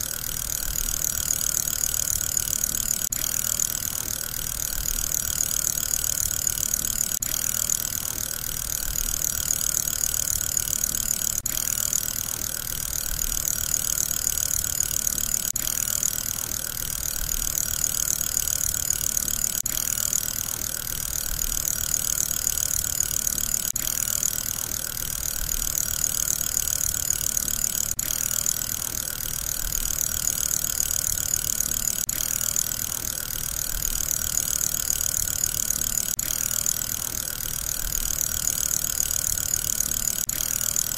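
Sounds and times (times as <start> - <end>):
fidget spinner whirring: 0.0 - 40.9.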